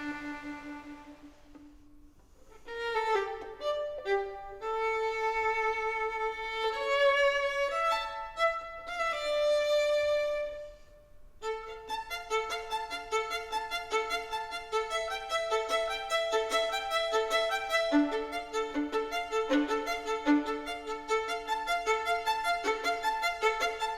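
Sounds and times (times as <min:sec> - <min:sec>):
solo violin playing: 0:00.0 - 0:23.9.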